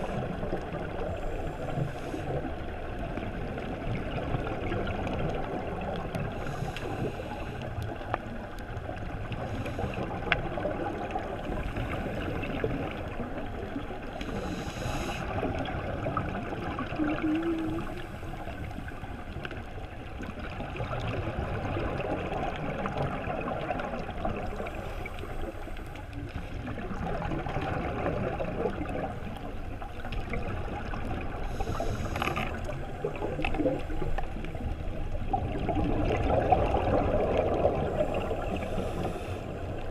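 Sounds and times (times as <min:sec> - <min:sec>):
exhaled bubbles gurgling: 0:00.0 - 0:39.9
muffled underwater rush: 0:00.0 - 0:39.9.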